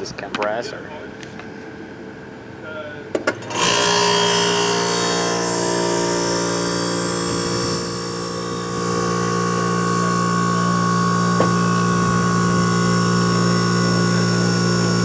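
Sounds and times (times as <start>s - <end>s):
air conditioner compressor and fan hum: 0.0s - 15.0s.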